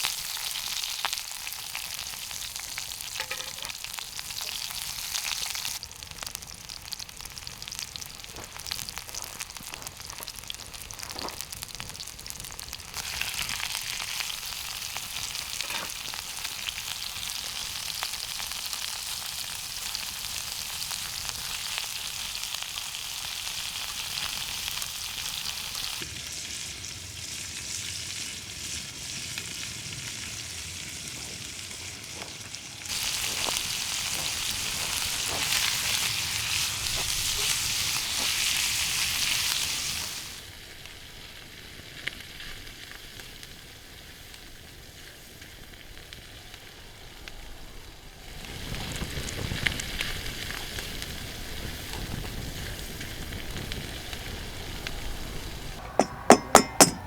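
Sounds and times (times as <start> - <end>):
food sizzling in a pan: 0.0 - 56.7.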